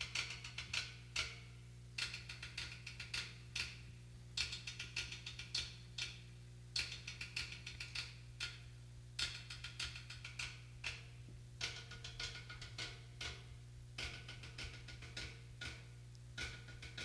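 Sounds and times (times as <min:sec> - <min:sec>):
cymbals tapped with drumsticks: 0:00.0 - 0:06.2, 0:06.8 - 0:08.6, 0:09.2 - 0:17.0
steady low hum: 0:00.0 - 0:17.0.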